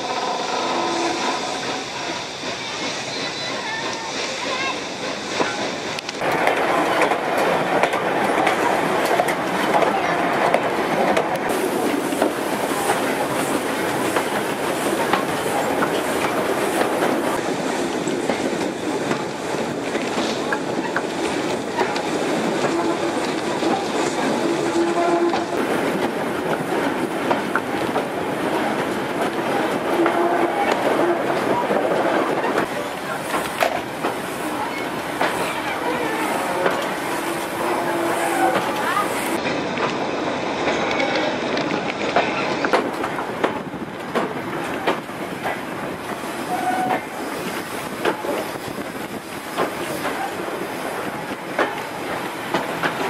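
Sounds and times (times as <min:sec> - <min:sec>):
train carriage rumbling: 0:00.0 - 0:53.0.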